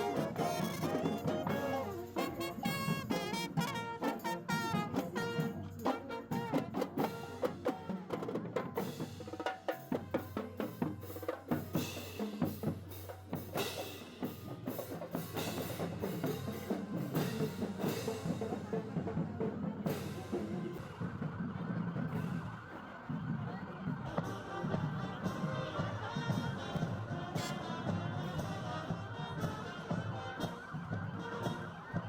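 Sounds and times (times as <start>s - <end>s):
marching band drums: 0.0s - 32.0s.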